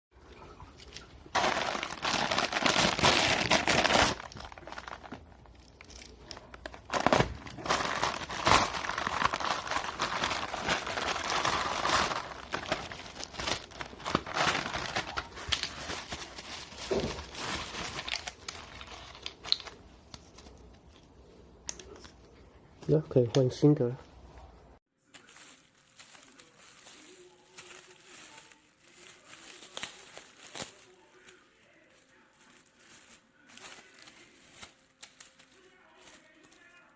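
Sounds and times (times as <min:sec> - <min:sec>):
plastic packaging crinkling: 0:00.8 - 0:20.8, 0:25.1 - 0:36.9.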